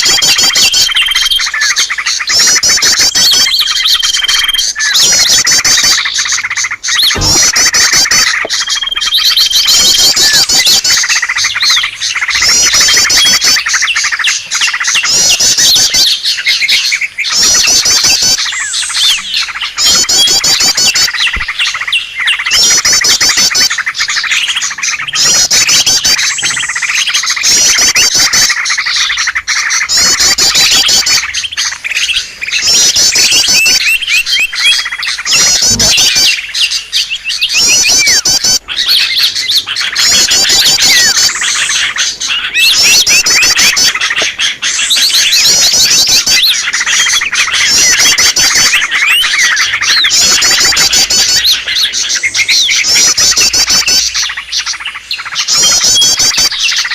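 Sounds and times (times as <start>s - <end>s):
rapid high bird trill: 0.0s - 56.9s
small birds chirping: 0.0s - 56.9s.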